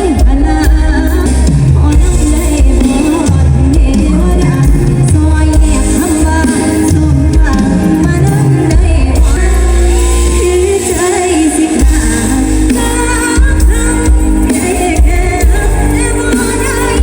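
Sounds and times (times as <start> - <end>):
heavy bass: 0.0 - 17.0
live band music: 0.0 - 17.0
woman singing: 0.0 - 17.0.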